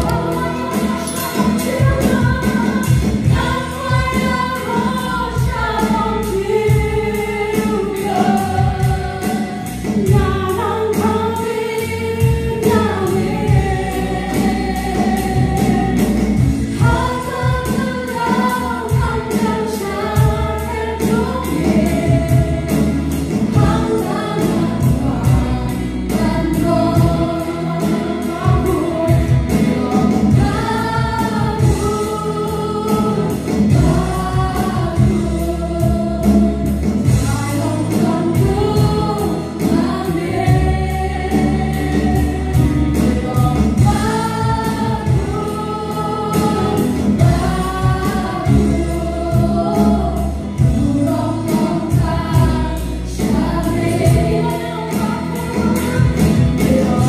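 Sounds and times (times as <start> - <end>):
acoustic guitar: 0.0 - 57.0
bass guitar: 0.0 - 57.0
drum kit: 0.0 - 57.0
group singing gospel: 0.0 - 57.0.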